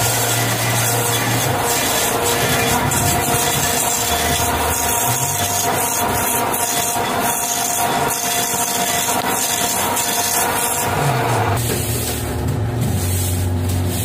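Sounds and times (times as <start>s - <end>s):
metal lathe cutting: 0.0s - 11.6s.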